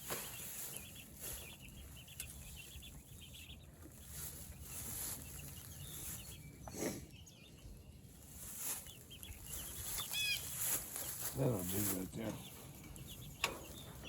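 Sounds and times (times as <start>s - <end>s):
chickens peeping: 0.0s - 14.0s.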